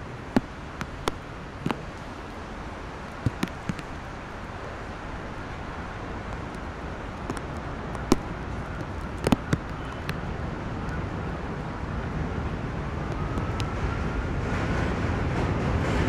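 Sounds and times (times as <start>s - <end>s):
wet-road traffic noise: 0.0s - 16.0s.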